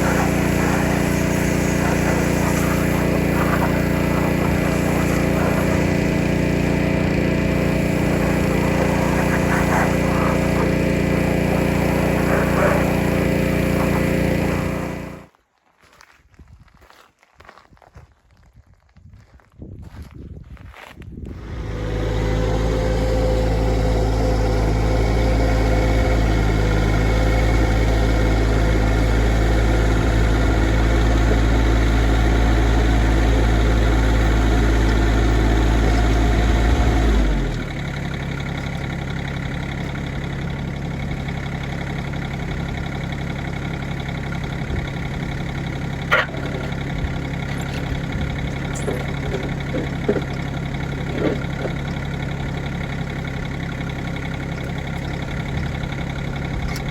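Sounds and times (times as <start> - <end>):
motor running: 0.0 - 15.3, 21.3 - 56.9.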